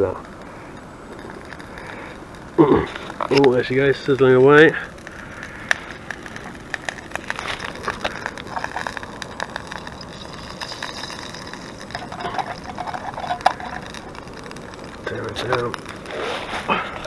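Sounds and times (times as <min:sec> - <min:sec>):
butter sizzling in a frying pan: 0:00.0 - 0:17.0
sharp crack: 0:00.0 - 0:17.0.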